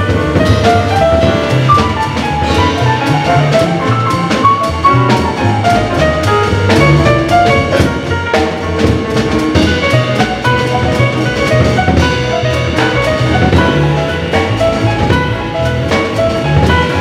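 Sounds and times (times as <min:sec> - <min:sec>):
double bass line: 0:00.0 - 0:17.0
drum kit cymbals: 0:00.0 - 0:17.0
grand piano melody: 0:00.0 - 0:17.0.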